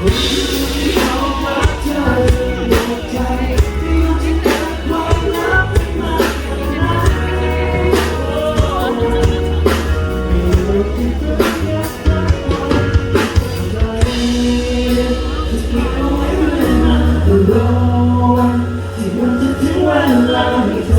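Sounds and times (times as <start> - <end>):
live band playing pop ballad: 0.0 - 20.9
person singing: 0.0 - 20.9.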